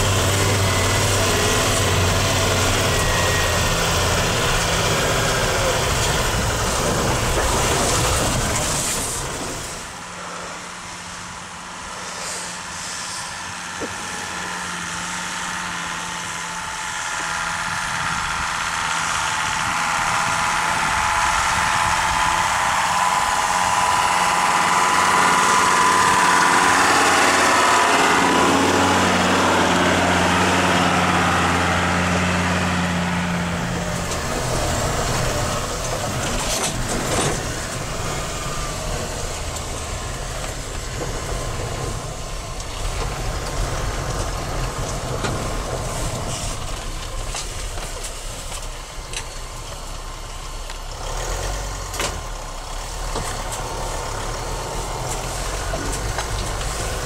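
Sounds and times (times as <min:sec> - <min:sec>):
van engine driving through snow: 0:00.0 - 0:57.0.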